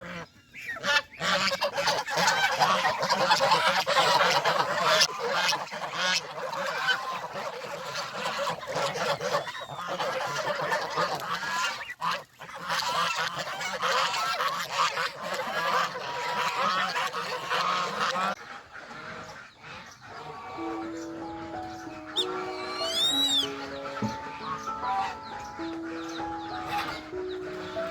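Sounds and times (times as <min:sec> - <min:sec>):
geese honking: 0:00.0 - 0:27.9.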